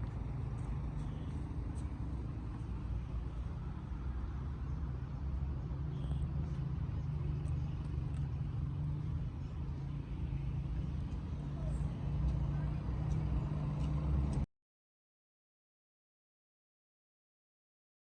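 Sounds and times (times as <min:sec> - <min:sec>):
motor vehicle engine rumble: 0:00.0 - 0:14.5.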